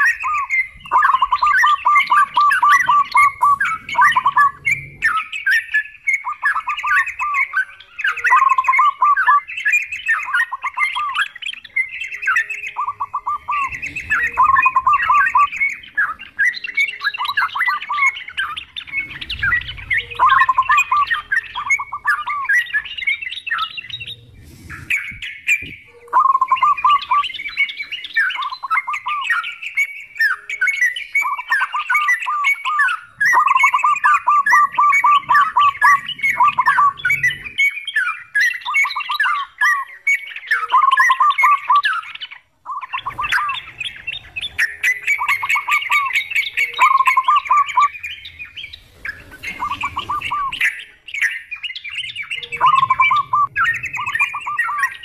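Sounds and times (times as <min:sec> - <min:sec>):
bulbuls singing chattering phrases: 0:00.0 - 0:55.0
doves cooing: 0:00.0 - 0:55.0.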